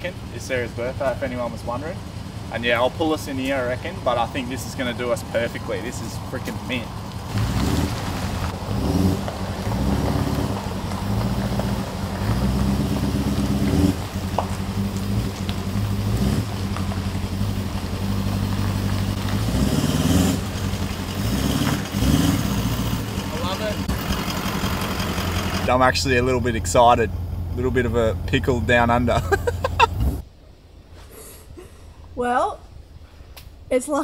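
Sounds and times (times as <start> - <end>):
car engine revving under load: 0.0 - 30.4.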